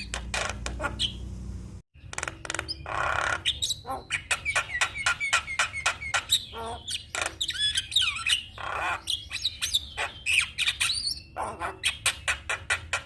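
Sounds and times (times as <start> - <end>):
bird harsh squawk: 0.0 - 1.2, 2.4 - 13.0.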